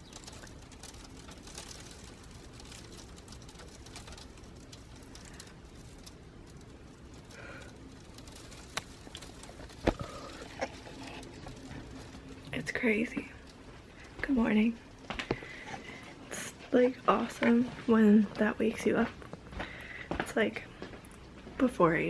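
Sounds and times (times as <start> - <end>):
ice pellets pattering: 0.0 - 19.9.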